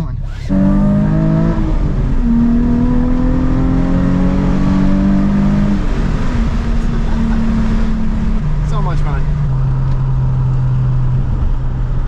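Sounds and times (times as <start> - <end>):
car engine accelerating: 0.0 - 12.0
road and tyre noise: 0.0 - 12.0.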